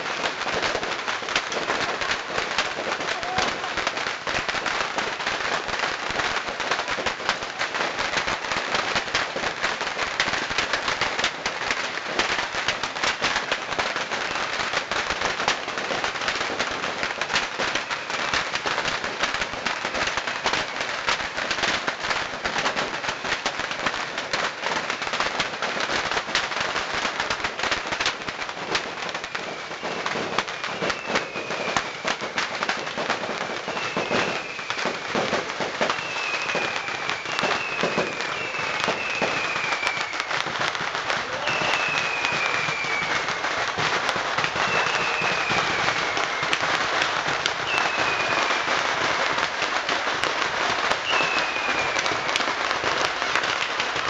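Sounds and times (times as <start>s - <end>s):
falling firework whistles: 0.0s - 54.0s
fireworks crackling bangs: 0.0s - 54.0s.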